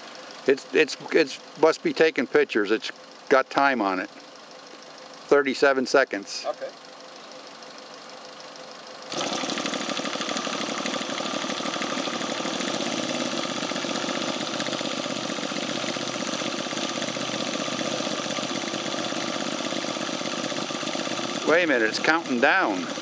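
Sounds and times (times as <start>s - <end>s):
model airplane engine running: 0.0s - 23.0s.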